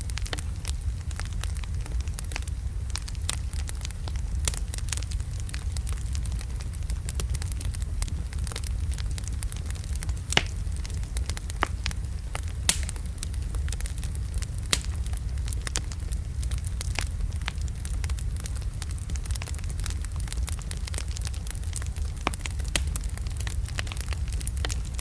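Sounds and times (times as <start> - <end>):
fire crackles and pops: 0.0 - 25.0
low rumble of flames: 0.0 - 25.0.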